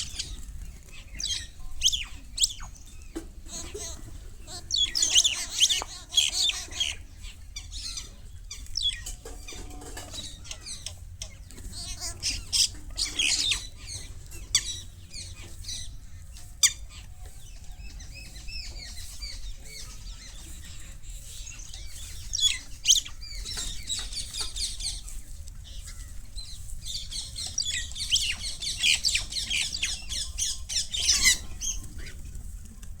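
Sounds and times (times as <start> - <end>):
birds chattering and squawking: 0.0 - 33.0.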